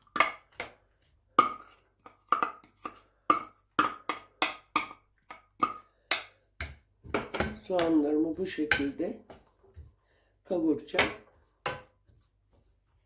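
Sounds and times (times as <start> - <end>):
wooden spoon knocking ceramic bowl: 0.0 - 9.5, 10.9 - 12.1.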